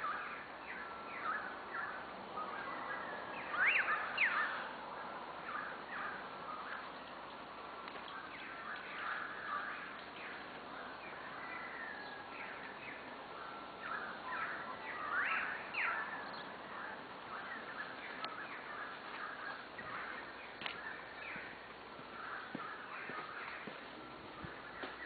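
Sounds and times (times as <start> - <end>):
birds chirping and whistling: 0.0 - 4.7, 8.0 - 25.0.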